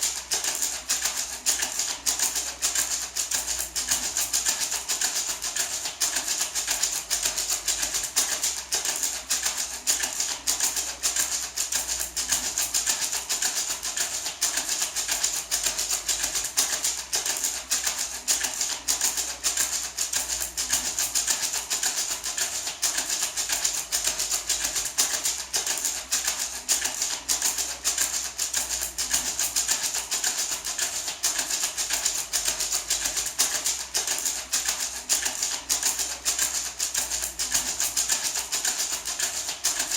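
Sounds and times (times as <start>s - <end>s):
gourd maraca rattling: 0.0s - 39.9s.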